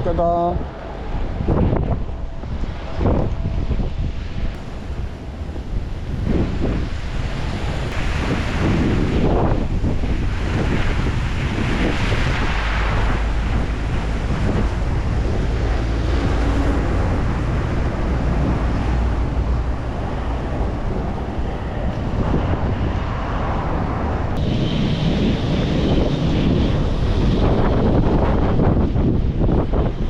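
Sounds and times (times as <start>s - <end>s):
wind buffeting microphone: 0.0s - 30.0s
waves washing on shore: 4.2s - 28.3s.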